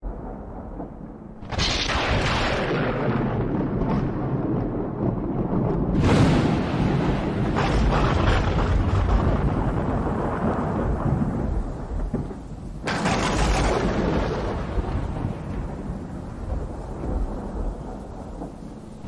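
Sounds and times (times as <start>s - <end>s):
thunder crack and rumble: 0.0s - 19.0s.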